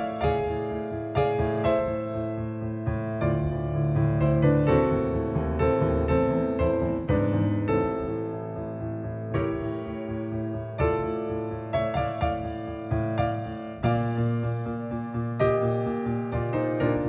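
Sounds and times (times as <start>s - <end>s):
gentle electric piano melody: 0.0s - 17.0s.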